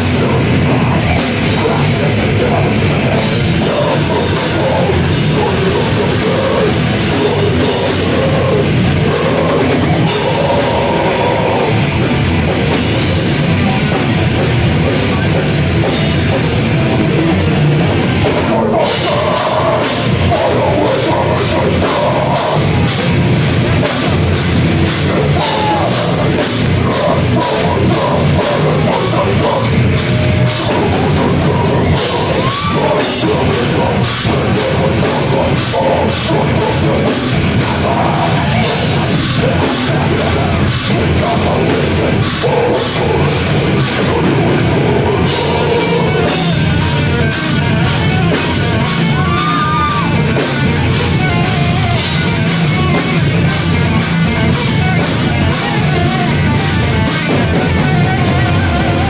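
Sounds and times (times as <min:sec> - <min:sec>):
distorted guitars and bass: 0:00.0 - 0:59.0
fast dense drumming: 0:00.0 - 0:59.0
harsh screamed vocals: 0:00.0 - 0:59.0.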